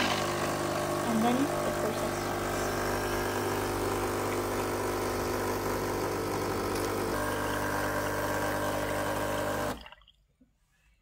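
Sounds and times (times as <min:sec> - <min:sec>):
capsule machine pump humming: 0:00.0 - 0:10.0.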